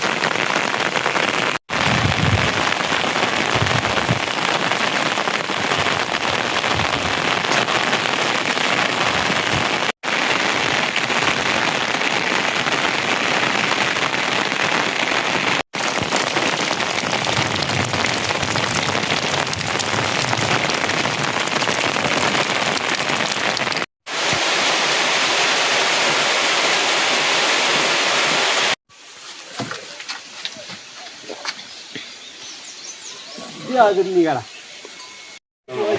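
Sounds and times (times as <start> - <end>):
heavy rain hissing: 0.0 - 34.8.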